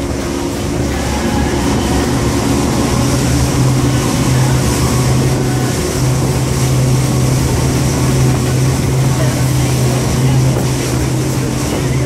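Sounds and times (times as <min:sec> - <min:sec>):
outboard engines droning: 0:00.0 - 0:12.0
water rushing: 0:00.0 - 0:12.0.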